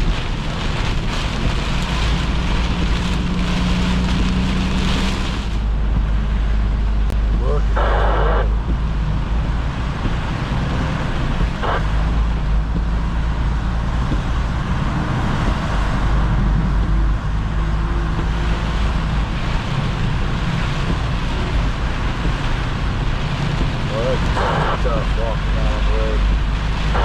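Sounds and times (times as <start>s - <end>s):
diesel engine running: 0.0s - 27.0s
rain on wet road: 0.0s - 27.0s.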